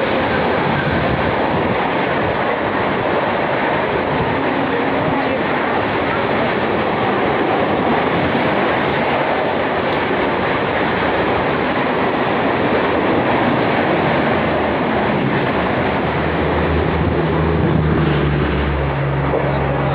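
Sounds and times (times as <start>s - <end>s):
train passing at speed: 0.0s - 19.9s.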